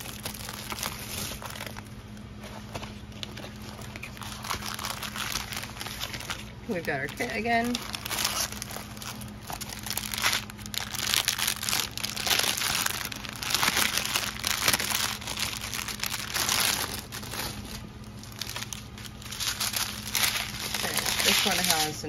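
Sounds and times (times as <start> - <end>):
plastic packaging crinkling: 0.0 - 22.0
steady low hum: 0.0 - 22.0.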